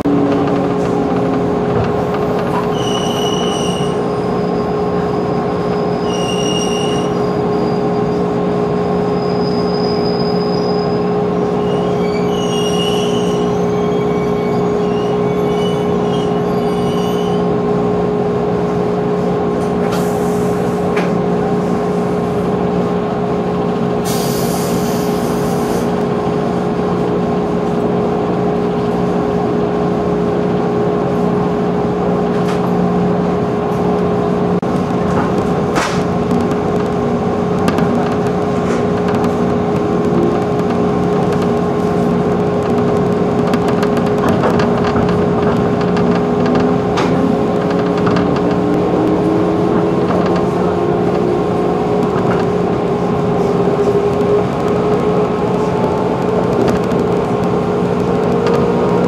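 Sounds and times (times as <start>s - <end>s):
electric train whine: 0.0s - 59.0s
train equipment hum: 0.0s - 59.0s.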